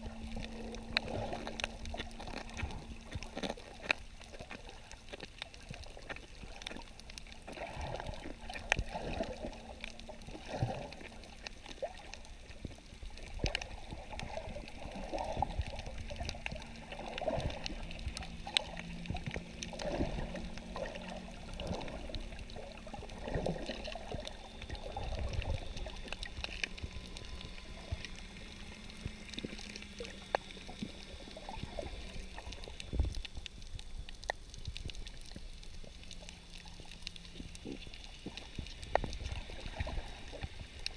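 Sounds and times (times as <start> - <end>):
steady low hum: 0.0 - 40.9
underwater sloshing and gurgling: 0.0 - 40.9.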